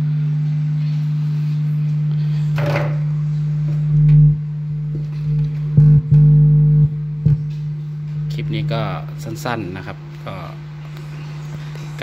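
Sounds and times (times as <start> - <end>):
subwoofer low test tone: 0.0 - 12.0.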